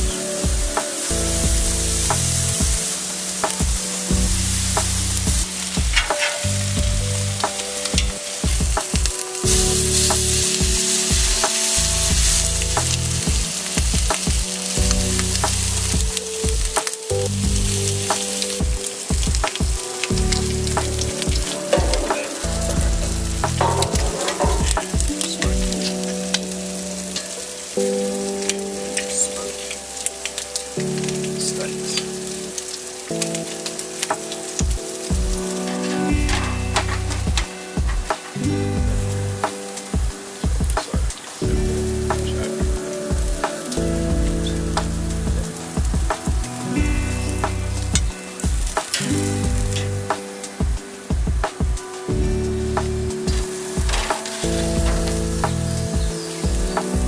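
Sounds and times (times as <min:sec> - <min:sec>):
background music with bass: 0:00.0 - 0:57.0
food sizzling on a grill: 0:00.0 - 0:57.0.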